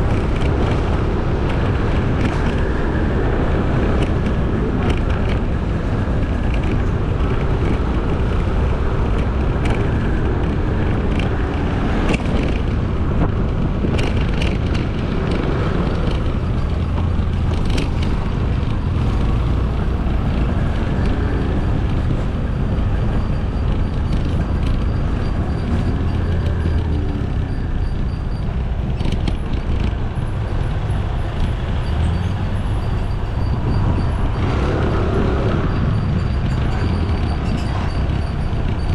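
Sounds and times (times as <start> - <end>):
motorcycle engine and road noise: 0.0 - 38.9
surrounding traffic: 0.0 - 38.9.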